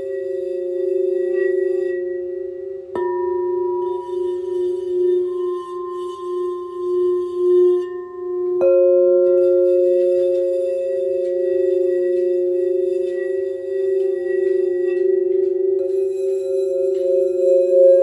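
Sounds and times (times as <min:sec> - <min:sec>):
higher bowl struck and ringing: 0:00.0 - 0:18.0
singing bowls ringing: 0:00.0 - 0:18.0.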